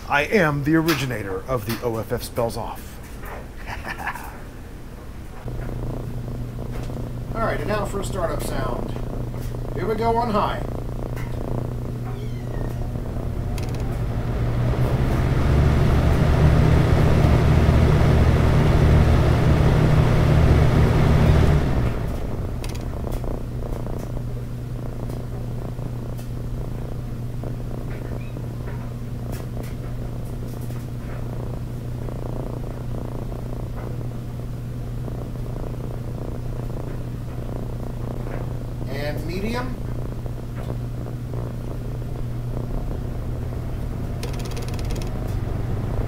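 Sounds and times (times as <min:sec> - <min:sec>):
box fan humming: 0:00.0 - 0:46.0
steady low drone: 0:03.8 - 0:46.0.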